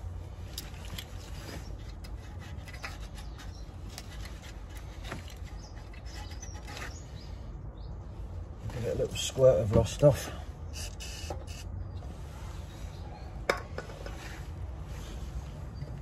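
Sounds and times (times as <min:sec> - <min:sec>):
birds chirping: 0:01.1 - 0:14.0.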